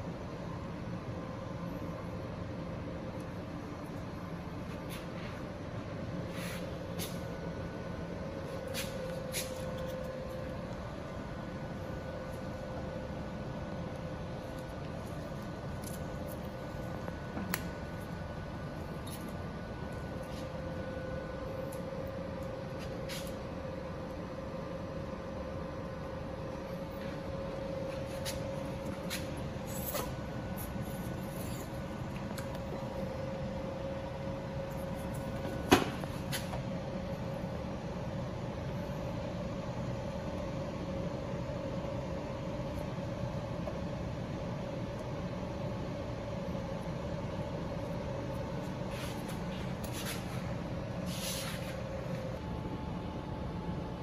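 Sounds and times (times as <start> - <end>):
equipment humming with whine: 0.0 - 54.0.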